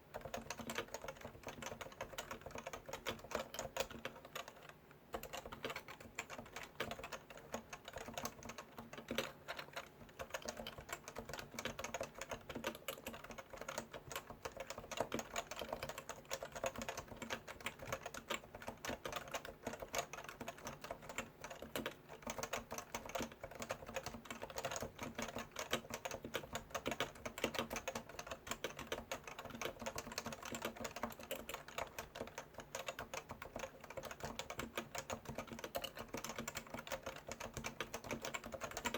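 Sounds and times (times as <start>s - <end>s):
keyboard typing muted keystrokes: 0.0s - 38.9s.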